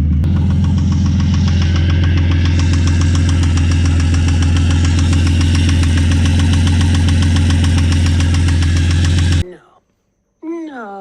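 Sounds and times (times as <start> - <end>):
engine idling with rod knock: 0.0 - 9.4.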